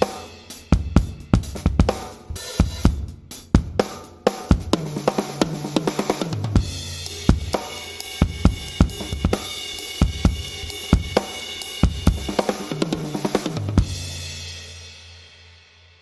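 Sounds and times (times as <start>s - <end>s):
ringing cymbals and hi-hat: 0.0s - 15.8s.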